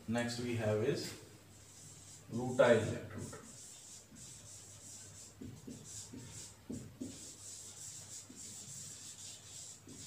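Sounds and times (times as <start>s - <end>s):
marker scratching on whiteboard: 1.5s - 10.0s.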